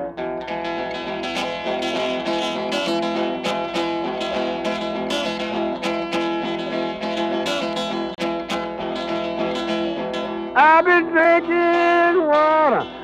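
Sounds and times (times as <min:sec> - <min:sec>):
blues guitar playing: 0:00.0 - 0:13.0.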